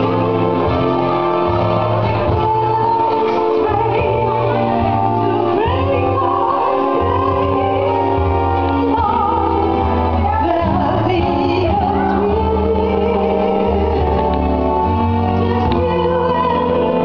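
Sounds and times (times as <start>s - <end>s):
amplified backing music: 0.0s - 17.0s
woman singing with vibrato: 0.0s - 17.0s.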